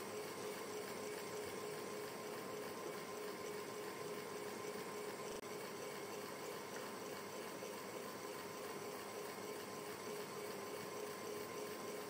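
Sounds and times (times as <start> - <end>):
fan motor hum: 0.0 - 12.0.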